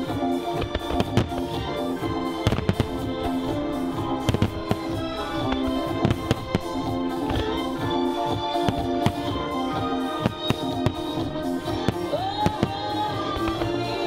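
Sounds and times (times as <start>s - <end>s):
fireworks bursting: 0.0s - 14.0s
music soundtrack: 0.0s - 14.0s.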